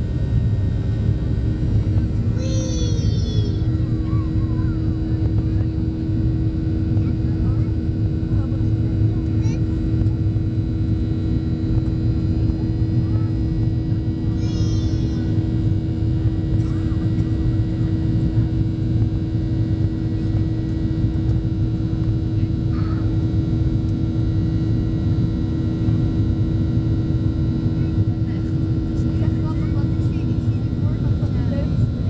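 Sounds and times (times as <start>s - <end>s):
airplane cabin drone: 0.0s - 32.0s
constant hum: 0.0s - 32.0s.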